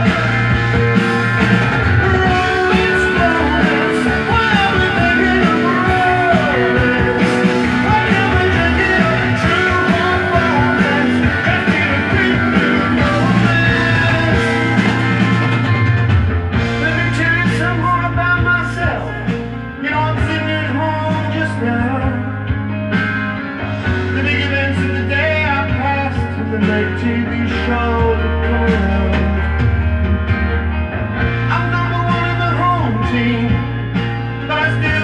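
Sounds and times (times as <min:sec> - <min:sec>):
rock music from vinyl record: 0:00.0 - 0:35.0.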